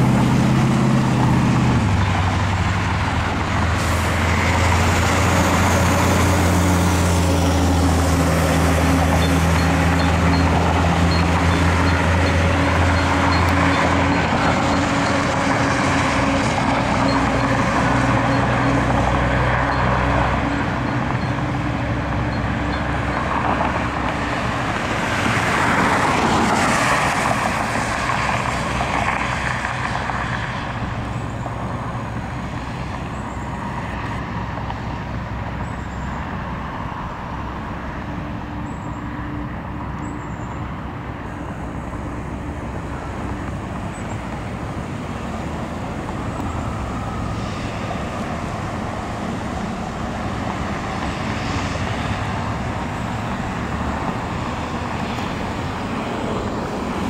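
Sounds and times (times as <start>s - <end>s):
cars passing: 0.0s - 57.0s
louder vehicle passing close: 0.0s - 57.0s.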